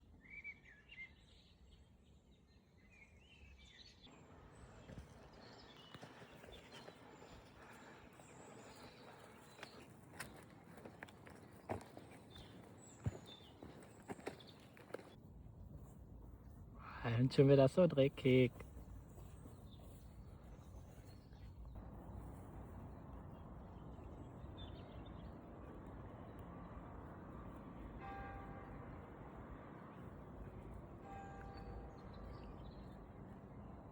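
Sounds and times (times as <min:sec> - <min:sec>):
faint birdsong: 0:00.0 - 0:15.2, 0:15.8 - 0:33.9.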